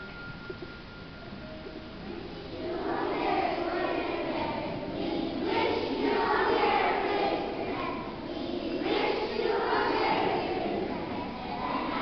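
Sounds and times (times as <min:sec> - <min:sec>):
children's choir singing: 0:01.7 - 0:12.0.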